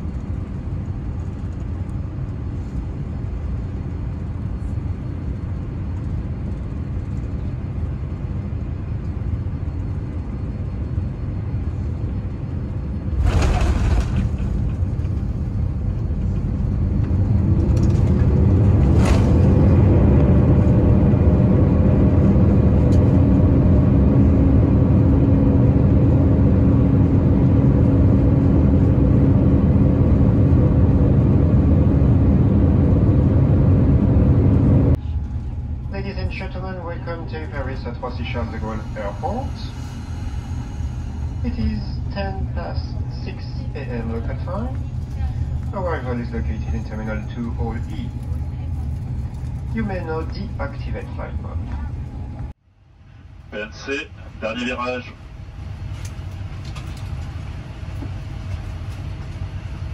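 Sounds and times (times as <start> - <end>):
airplane cabin rumble: 0.0 - 59.9
jet engines roaring: 0.0 - 59.9.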